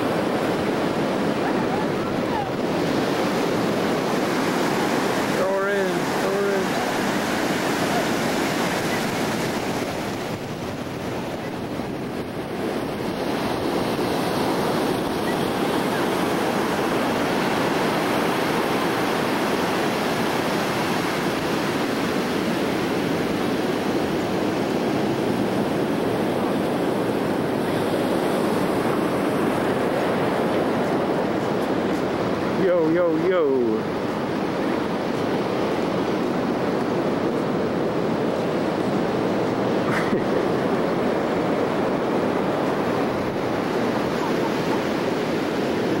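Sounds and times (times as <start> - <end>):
ocean surf washing onto beach: 0.0 - 46.0
wind: 0.0 - 46.0.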